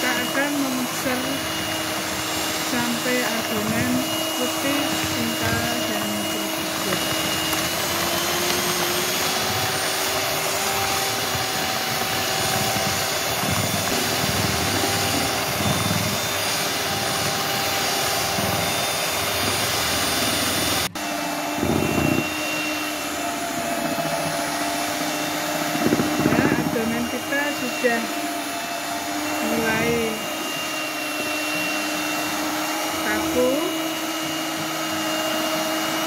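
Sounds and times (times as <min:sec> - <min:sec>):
electric hand mixer whipping batter: 0:00.0 - 0:36.0.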